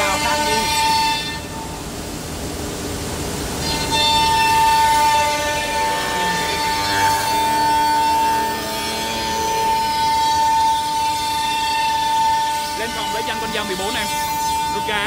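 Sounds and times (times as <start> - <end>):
router spindle cutting wood: 0.0 - 1.2, 3.6 - 15.0.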